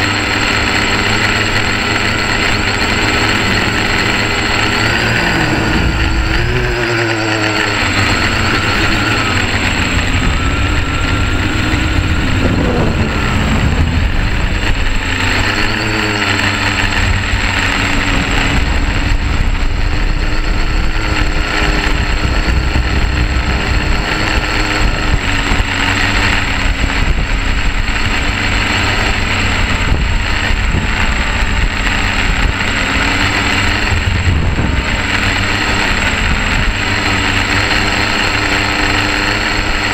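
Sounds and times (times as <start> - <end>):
drone motors buzzing: 0.0 - 39.9
steady rushing noise: 0.0 - 39.9.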